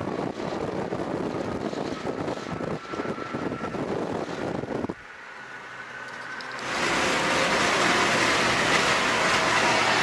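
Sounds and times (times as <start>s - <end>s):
car road and wind noise: 0.0s - 10.0s.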